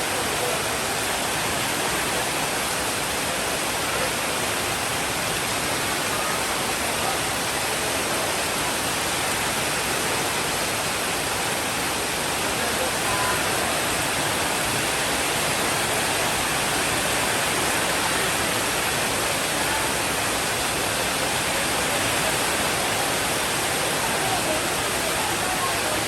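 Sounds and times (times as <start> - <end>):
steady rainfall hiss: 0.0 - 26.0.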